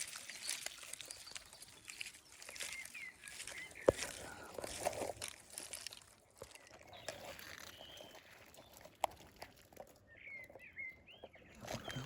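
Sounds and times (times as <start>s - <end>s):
small bird chirping: 0.0s - 4.8s, 5.9s - 9.3s, 10.0s - 12.0s.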